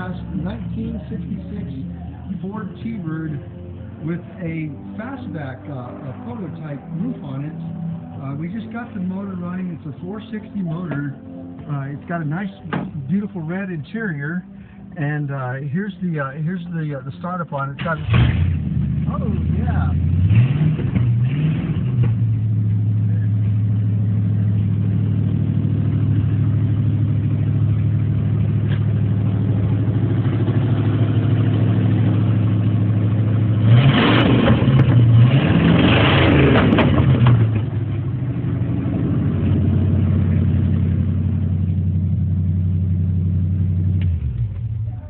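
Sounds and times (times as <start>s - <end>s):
car engine idling and revving: 0.0s - 45.0s.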